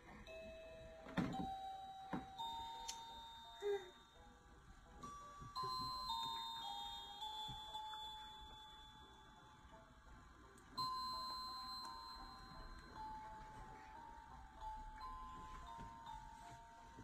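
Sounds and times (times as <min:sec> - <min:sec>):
slow chiming bell-like melody: 0:00.0 - 0:17.0.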